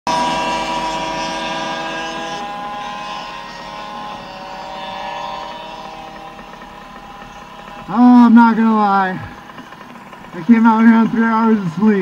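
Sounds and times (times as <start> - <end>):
small two-stroke engines running: 0.1 - 12.0.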